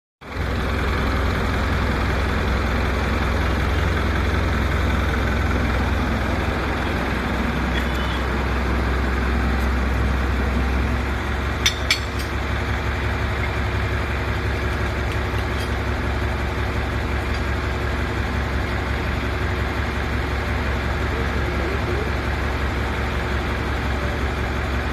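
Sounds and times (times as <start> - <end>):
machinery low hum: 0.3 - 24.9.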